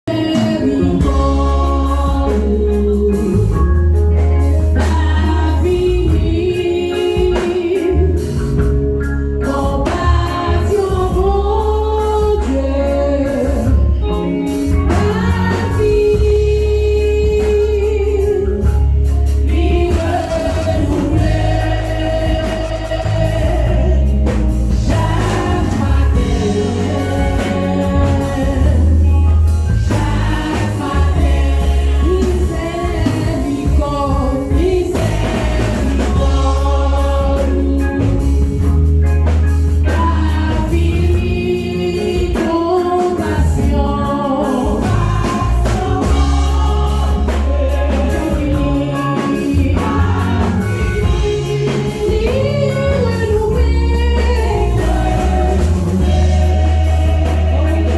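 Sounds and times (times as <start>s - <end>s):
group singing gospel song: 0.0s - 57.9s
sustained bass notes: 0.0s - 57.9s.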